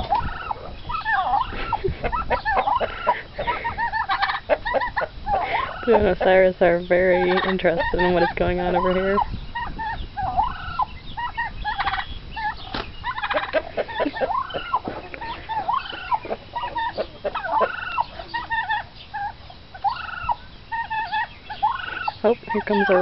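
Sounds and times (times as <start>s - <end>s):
turkeys chirping and yelping: 0.0s - 23.0s.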